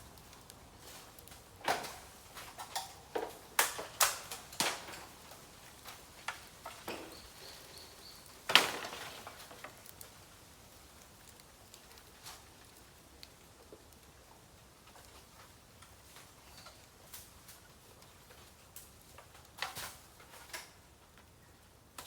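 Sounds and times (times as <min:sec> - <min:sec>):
bamboo fire crackling and popping: 0:00.0 - 0:22.0.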